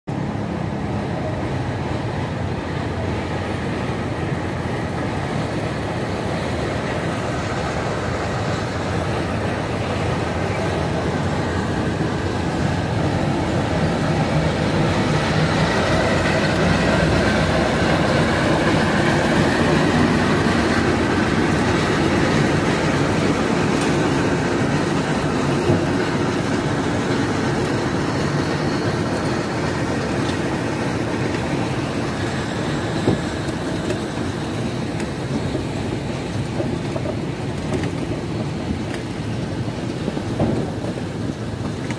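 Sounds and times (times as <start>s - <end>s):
diesel locomotive running: 0.1s - 41.9s
rolling wagons on track: 0.1s - 41.9s.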